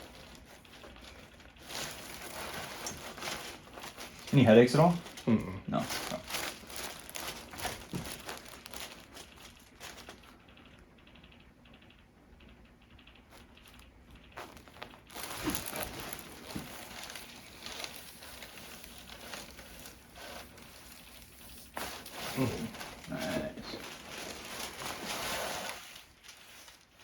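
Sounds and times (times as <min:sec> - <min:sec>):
soft crinkling and rustling: 0:00.0 - 0:27.0.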